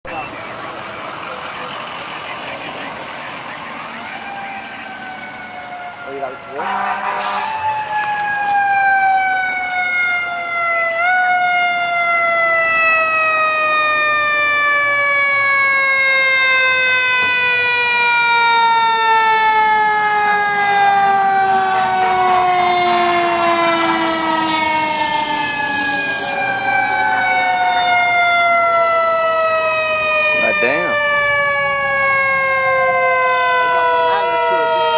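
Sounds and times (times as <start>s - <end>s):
fire truck siren wailing: 0.0s - 34.9s
faint second siren: 0.1s - 34.9s.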